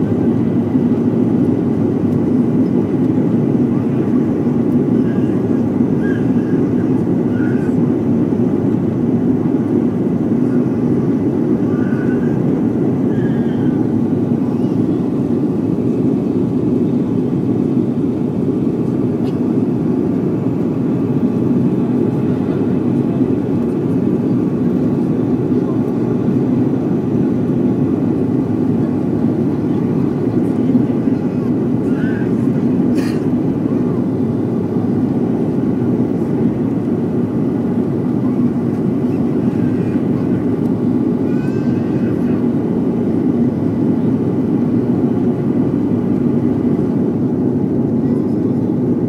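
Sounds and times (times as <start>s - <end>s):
airliner engine roar and rushing air: 0.0s - 49.0s.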